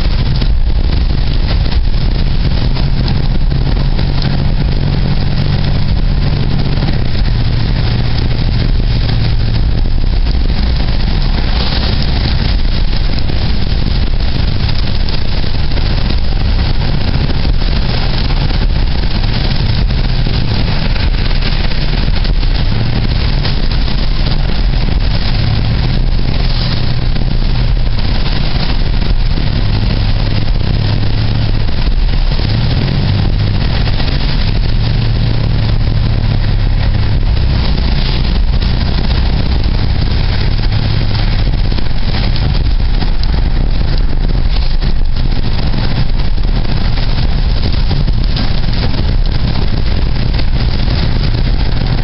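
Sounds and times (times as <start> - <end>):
car engine hum: 0.0 - 52.0
road and wind noise: 0.0 - 52.0.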